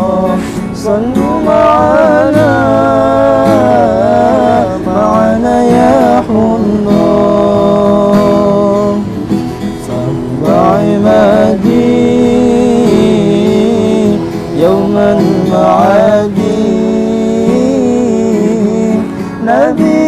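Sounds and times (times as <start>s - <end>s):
person singing devotional song: 0.0s - 9.1s, 9.8s - 20.0s
acoustic guitar: 0.0s - 20.0s.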